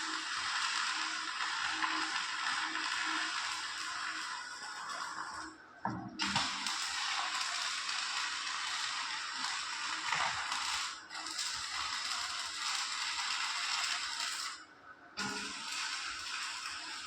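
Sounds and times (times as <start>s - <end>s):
welding arc crackling and hissing: 0.0s - 5.6s, 6.2s - 17.0s.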